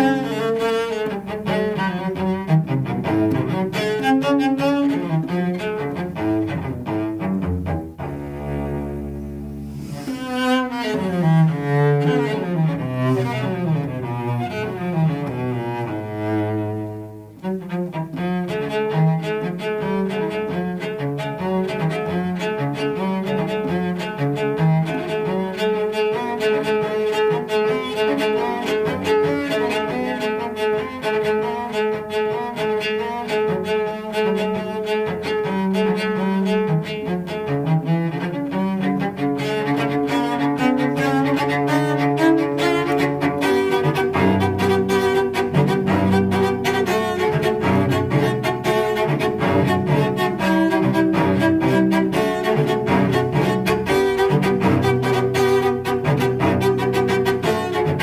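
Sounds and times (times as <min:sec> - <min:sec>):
solo cello bowed melody: 0:00.0 - 0:58.0.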